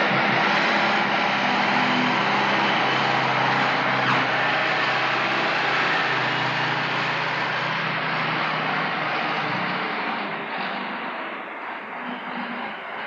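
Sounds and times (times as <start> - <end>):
bulldozer engine running: 0.0 - 12.0.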